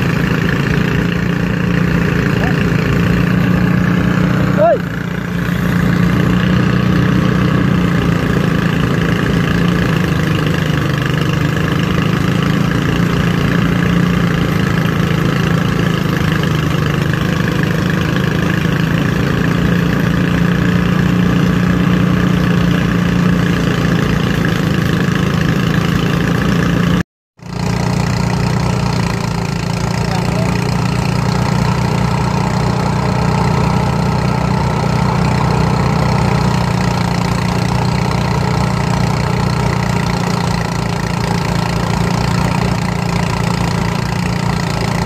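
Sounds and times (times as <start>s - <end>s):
threshing drum whirring: 0.0s - 45.0s
threshing machine engine hum: 0.0s - 45.0s.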